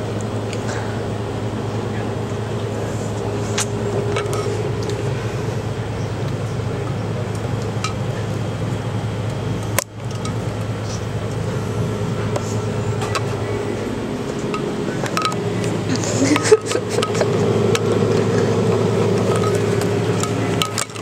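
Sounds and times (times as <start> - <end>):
steady low hum with hiss: 0.0 - 21.0.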